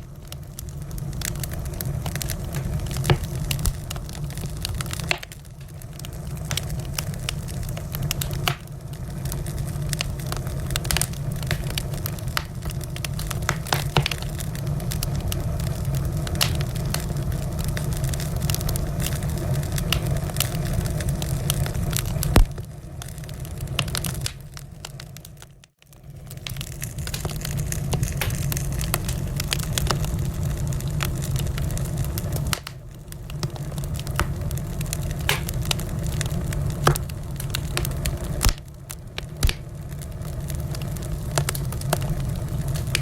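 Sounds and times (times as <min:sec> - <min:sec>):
low rumble of burning: 0:00.0 - 0:43.0
wood fire crackling and popping: 0:00.0 - 0:43.0.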